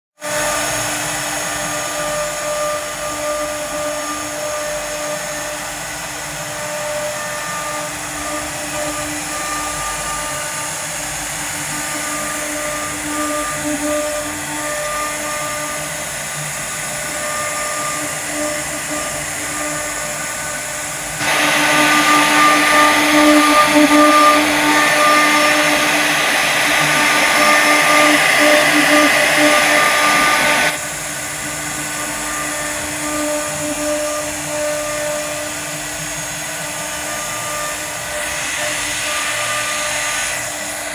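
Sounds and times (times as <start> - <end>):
router motor whine: 0.2 - 40.9
router bit rasping into wood: 0.3 - 40.9.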